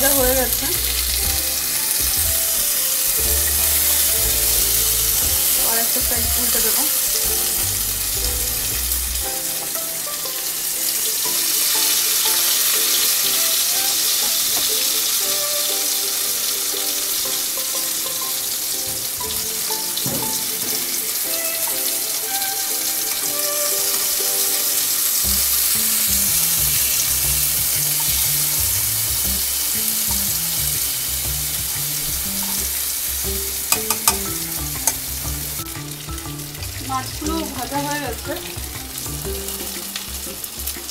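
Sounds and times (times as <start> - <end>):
fish sizzling in oil: 0.0 - 40.9
soft background music: 0.0 - 40.9.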